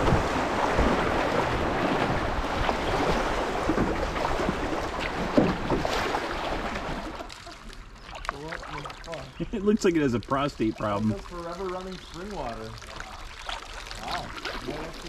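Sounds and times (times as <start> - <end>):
small splashes: 0.0 - 15.0.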